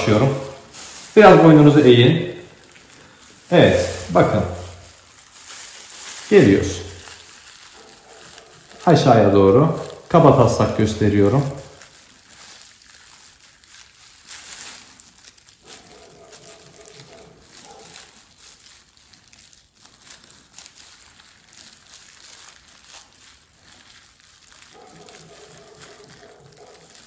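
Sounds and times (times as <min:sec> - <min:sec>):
plastic gloves crinkling: 0:00.0 - 0:27.0.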